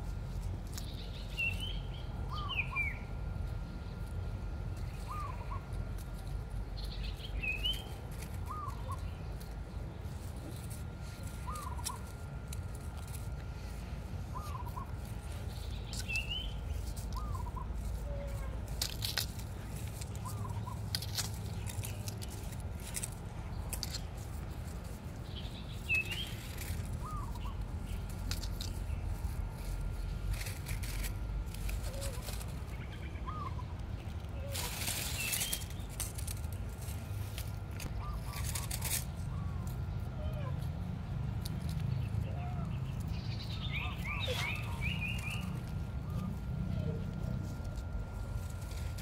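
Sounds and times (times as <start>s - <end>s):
birds chirping: 0.0s - 18.6s, 19.6s - 49.0s
low background rumble: 0.0s - 49.0s.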